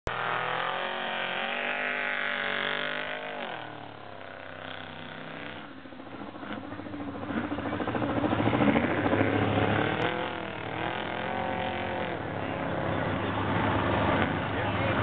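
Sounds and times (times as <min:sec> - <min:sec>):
truck engine revving: 0:00.1 - 0:15.0.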